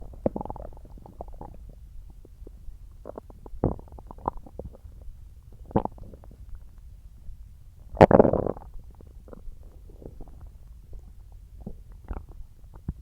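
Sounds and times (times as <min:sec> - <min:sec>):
stomach gurgling: 0:00.0 - 0:06.8, 0:07.9 - 0:13.0.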